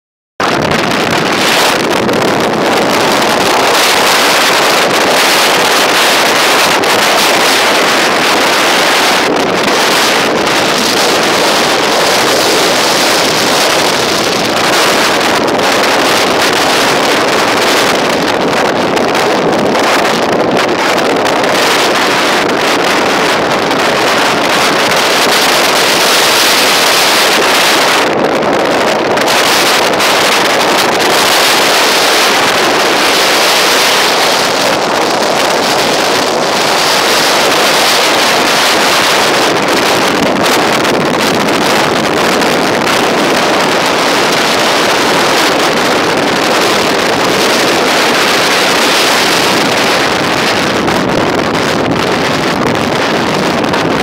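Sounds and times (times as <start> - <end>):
surf: 0.4 - 54.0
wind rushing: 0.4 - 54.0.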